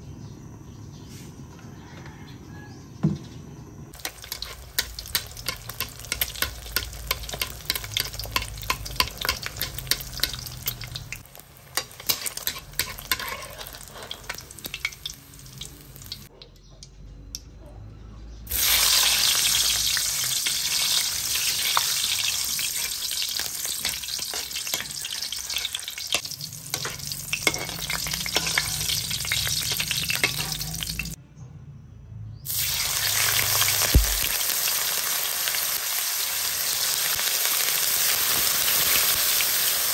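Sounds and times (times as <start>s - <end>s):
egg frying with popping spatter: 3.9s - 16.3s, 18.5s - 31.2s, 32.5s - 39.9s
hotdogs sizzling in oil: 3.9s - 16.3s, 18.5s - 31.2s, 32.5s - 39.9s.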